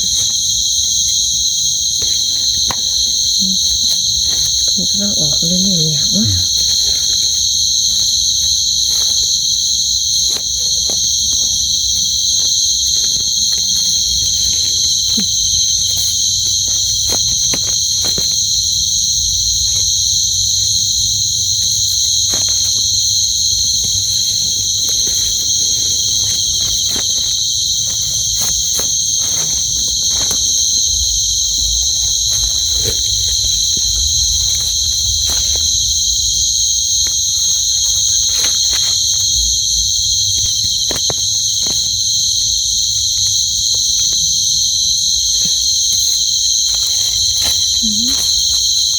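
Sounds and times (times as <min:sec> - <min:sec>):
faint rustles and clicks: 0:00.0 - 0:48.9
night insects trilling: 0:00.0 - 0:48.9.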